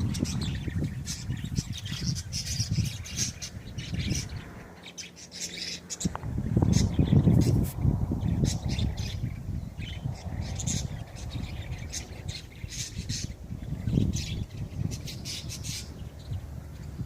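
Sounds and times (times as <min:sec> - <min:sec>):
steady low rumble: 0:00.0 - 0:04.9, 0:05.8 - 0:17.0
birds calling: 0:00.0 - 0:17.0.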